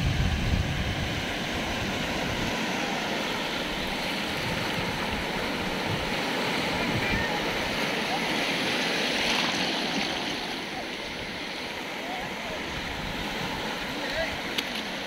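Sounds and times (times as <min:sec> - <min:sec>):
sea waves breaking on rocks: 0:00.6 - 0:15.0.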